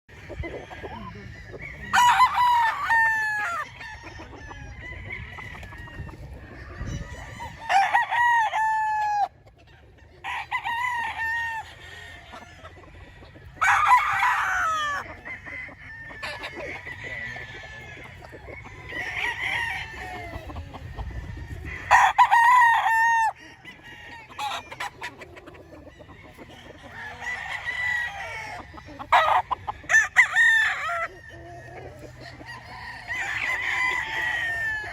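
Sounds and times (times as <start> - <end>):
chickens clucking: 0.1 - 34.9
roosters crowing: 0.1 - 34.9.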